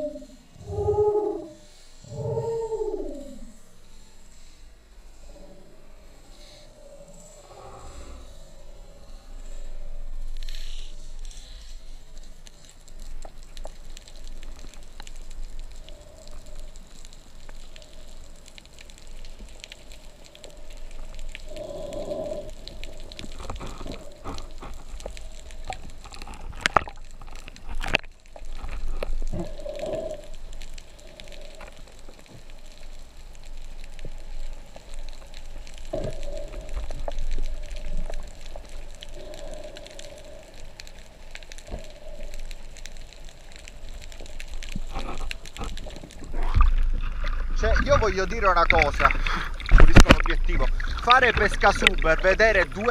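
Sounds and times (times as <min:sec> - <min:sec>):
underwater crackling hiss: 0:00.0 - 0:52.9.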